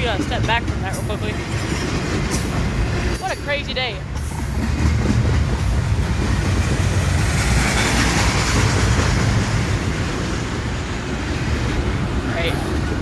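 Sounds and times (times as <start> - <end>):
clattering over track: 0.0 - 13.0
train wheels rumbling on rails: 0.0 - 13.0.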